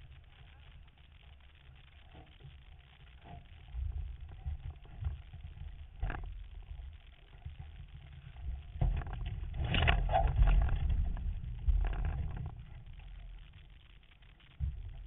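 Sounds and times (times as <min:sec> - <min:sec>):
water noise: 0:00.0 - 0:15.0.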